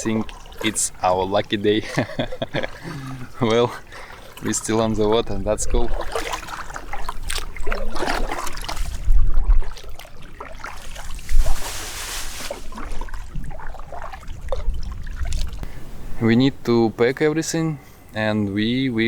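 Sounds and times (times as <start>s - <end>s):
paddle splashing water: 0.0s - 15.6s.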